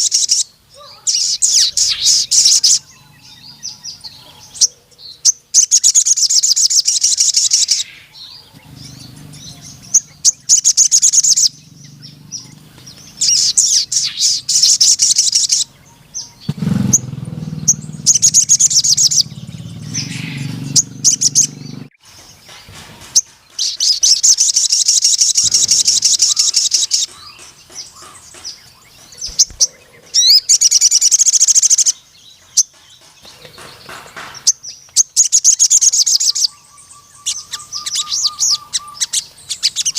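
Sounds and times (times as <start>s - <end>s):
bird buzzy trilling song: 0.0s - 39.9s.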